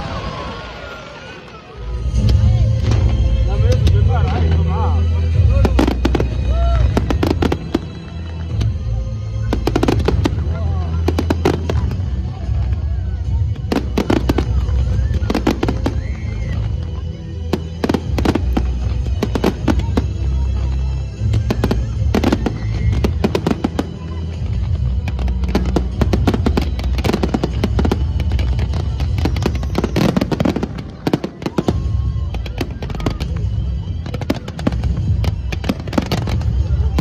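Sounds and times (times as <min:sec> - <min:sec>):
fireworks cracks and bangs: 0:05.4 - 0:37.0.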